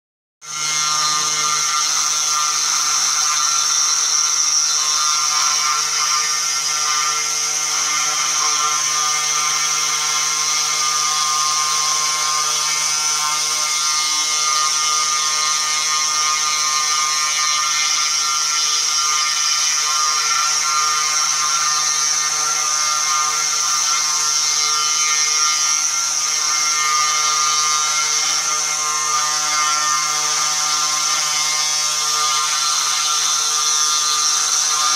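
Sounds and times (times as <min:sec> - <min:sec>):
router bit carving wood: 0:00.4 - 0:34.9.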